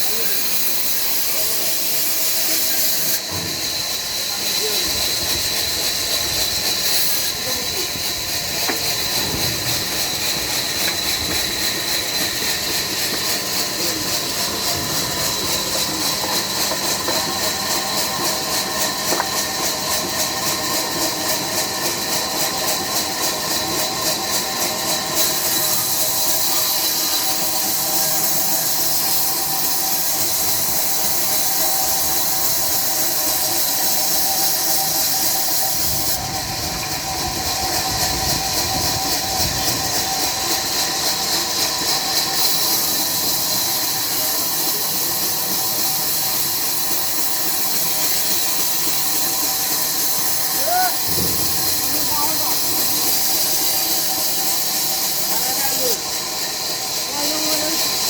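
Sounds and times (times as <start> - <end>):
sawmill running: 0.0 - 58.0.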